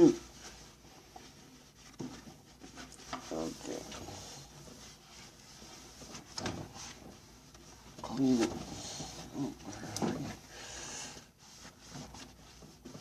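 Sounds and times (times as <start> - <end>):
paper towels rubbing and rustling: 0.0 - 13.0.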